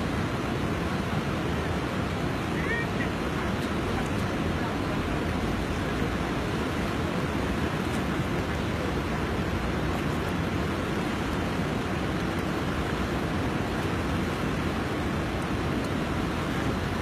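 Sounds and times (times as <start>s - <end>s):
flooded river rushing: 0.0s - 17.0s.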